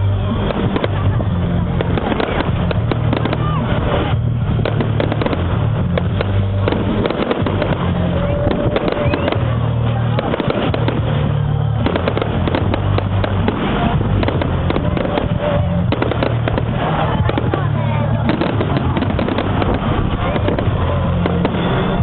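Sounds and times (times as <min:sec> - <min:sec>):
fireworks crackles and bangs: 0:00.0 - 0:22.0
heavy low rumble: 0:00.0 - 0:22.0.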